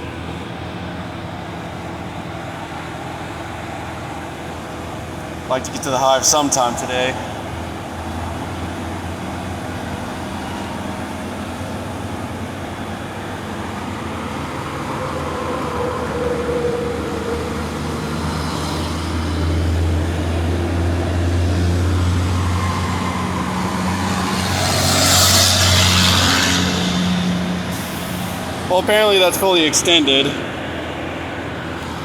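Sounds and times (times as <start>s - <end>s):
engine and hydraulics humming: 0.0s - 32.0s.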